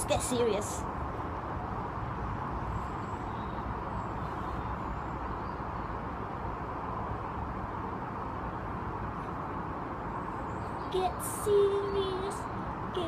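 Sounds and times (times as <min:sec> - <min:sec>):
outdoor background rumble and hiss: 0:00.0 - 0:13.0.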